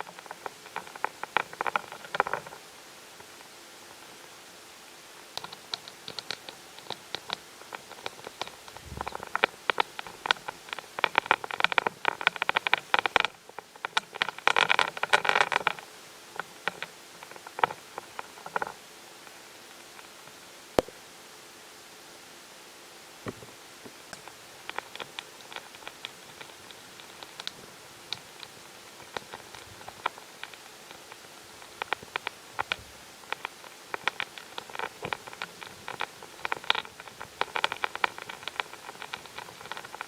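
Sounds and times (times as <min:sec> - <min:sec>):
rustling and clicking: 0:00.0 - 0:04.2, 0:05.2 - 0:21.0, 0:23.3 - 0:40.0.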